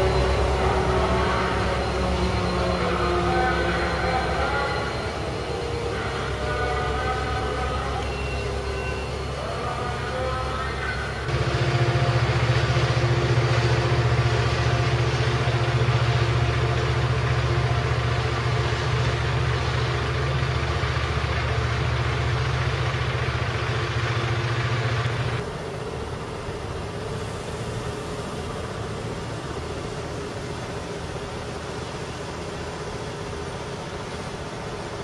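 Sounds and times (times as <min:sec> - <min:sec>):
diesel locomotive humming: 0:00.0 - 0:35.0.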